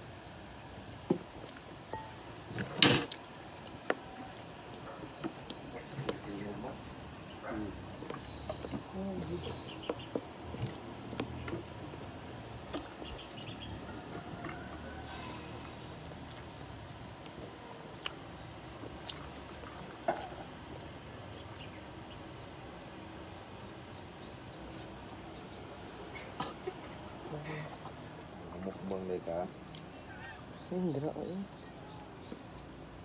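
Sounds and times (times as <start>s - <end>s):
small birds chirping: 0.0s - 33.0s
steady low background noise: 0.0s - 33.0s.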